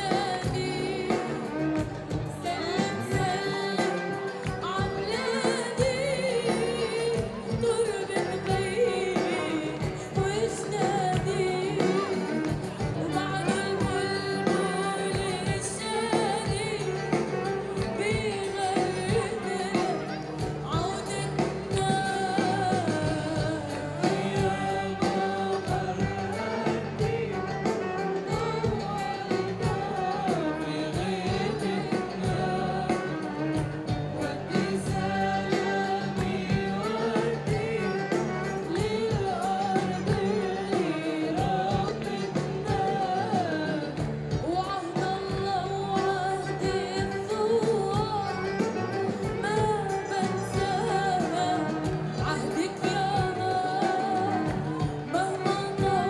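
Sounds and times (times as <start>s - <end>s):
instrumental accompaniment: 0.0s - 56.0s
woman singing into microphone: 0.0s - 56.0s.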